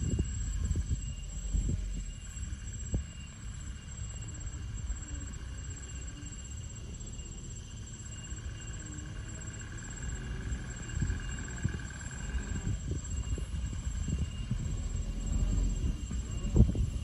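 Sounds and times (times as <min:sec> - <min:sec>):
insects chirping: 0:00.0 - 0:17.0
truck diesel engine labouring: 0:00.0 - 0:17.0.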